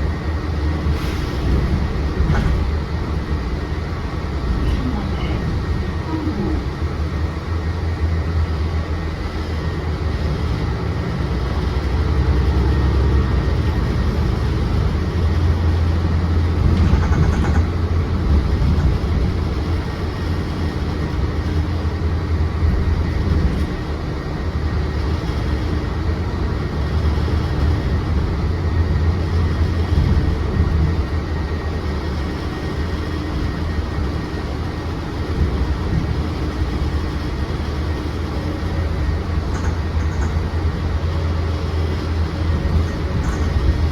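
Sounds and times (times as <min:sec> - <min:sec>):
bus engine and road rumble: 0:00.0 - 0:43.9.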